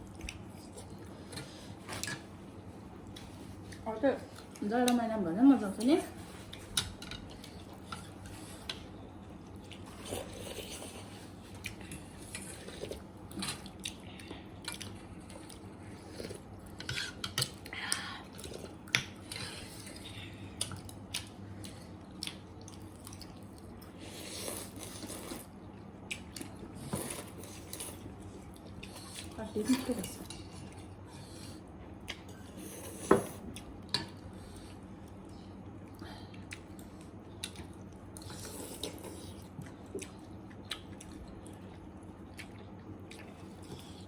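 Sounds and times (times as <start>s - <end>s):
chewing: 6.5s - 17.7s, 18.3s - 29.4s, 30.0s - 44.0s.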